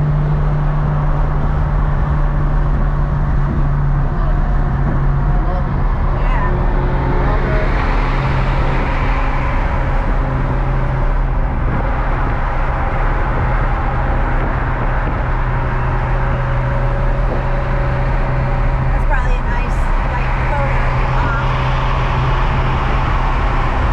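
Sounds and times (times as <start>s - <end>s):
road noise: 0.0s - 23.9s
sports car engine cruising: 0.0s - 23.9s.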